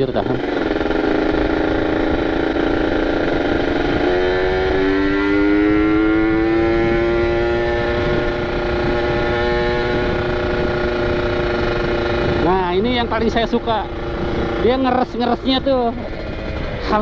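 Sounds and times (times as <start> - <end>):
two-stroke motorcycle engine: 0.0 - 17.0.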